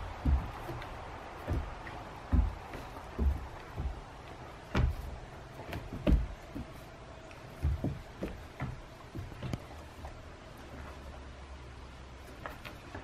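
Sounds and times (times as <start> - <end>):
paws thumping on plywood roof: 0.0 - 11.2.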